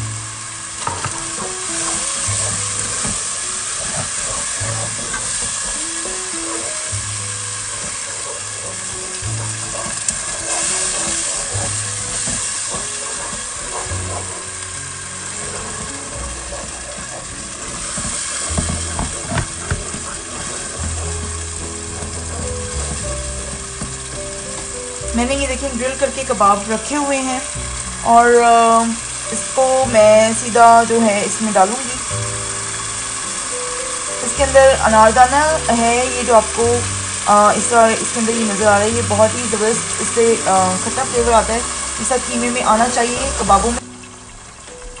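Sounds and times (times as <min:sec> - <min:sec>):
background music: 0:00.0 - 0:45.0
food sizzling in a pot: 0:00.0 - 0:45.0.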